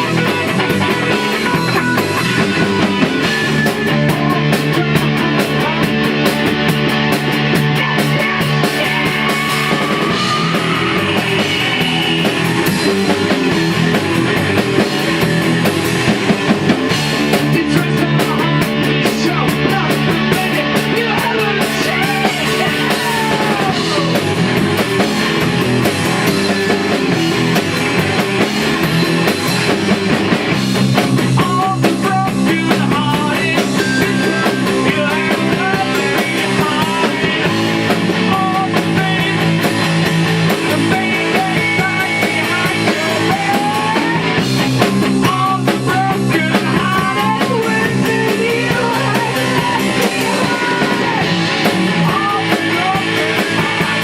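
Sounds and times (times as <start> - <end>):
drum kit: 0.0 - 54.0
electric guitar: 0.0 - 54.0.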